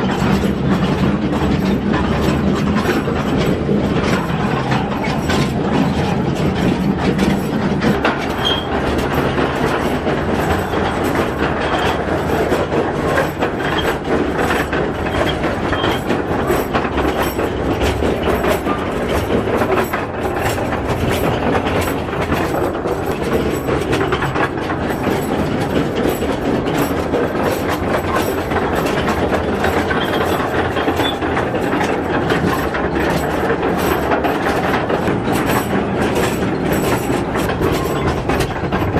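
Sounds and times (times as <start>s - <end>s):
train wheels rattling on rails: 0.0s - 38.9s.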